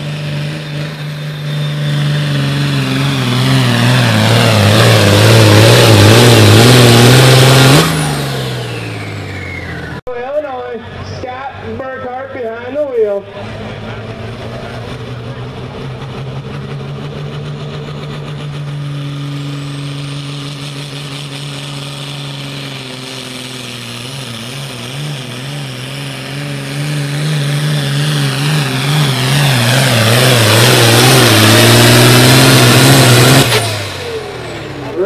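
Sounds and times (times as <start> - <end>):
tractor engine running hard: 0.0 - 35.0.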